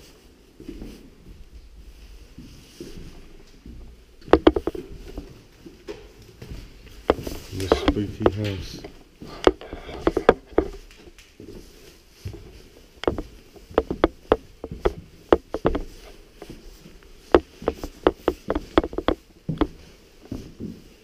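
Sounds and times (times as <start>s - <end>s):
footsteps on hard floors and stairs: 0.0s - 21.0s.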